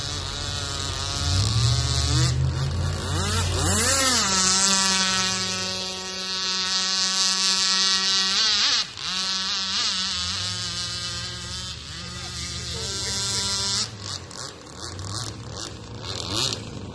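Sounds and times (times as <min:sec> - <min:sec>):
model boat engine buzzing: 0:00.0 - 0:16.9.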